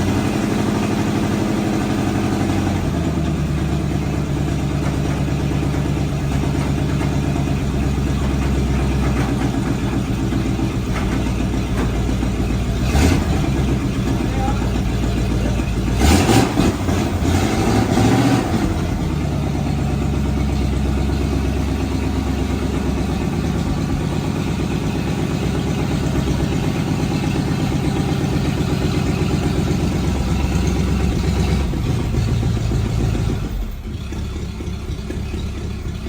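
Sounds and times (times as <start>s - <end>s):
engine running and revving: 0.0s - 36.0s.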